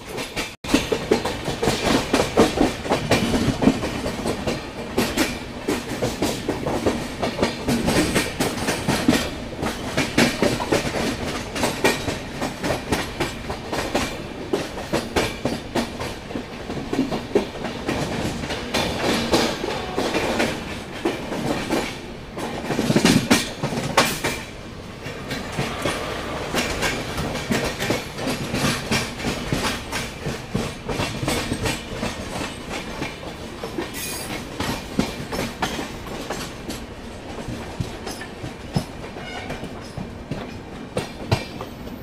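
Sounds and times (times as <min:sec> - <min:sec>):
train running noise rush: 0:00.0 - 0:42.0
train wheels clattering over joints: 0:00.0 - 0:42.0.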